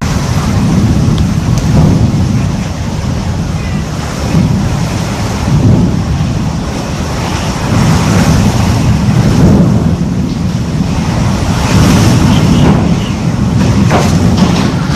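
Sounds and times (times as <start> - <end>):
strong wind gusts: 0.0 - 14.9.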